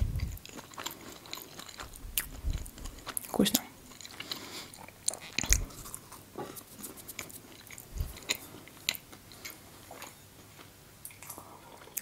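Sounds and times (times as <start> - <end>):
chewing crackly pastry: 0.0 - 12.0.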